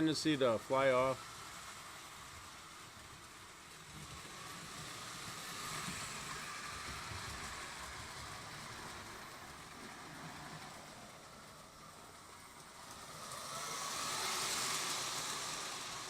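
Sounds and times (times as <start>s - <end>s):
toy train running on track: 0.0s - 16.0s.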